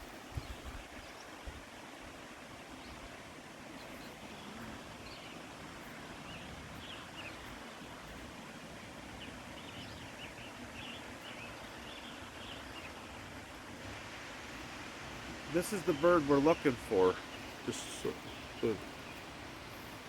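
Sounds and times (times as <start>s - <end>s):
faint bird song: 0.0s - 20.0s.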